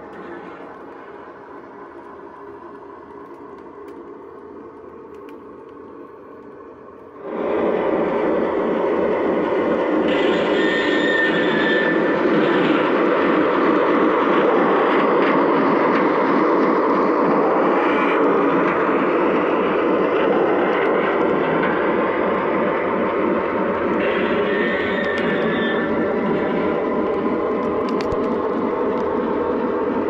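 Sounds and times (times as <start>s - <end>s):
model train wheels rolling: 0.0s - 30.0s.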